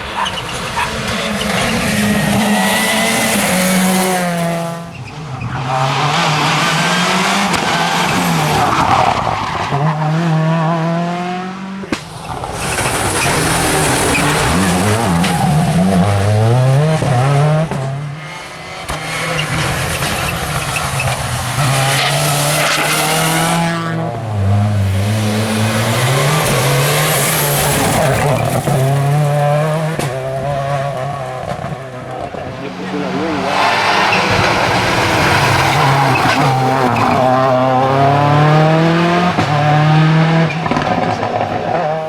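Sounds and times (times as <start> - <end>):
rally car engine shifting gears: 0.0 - 42.0.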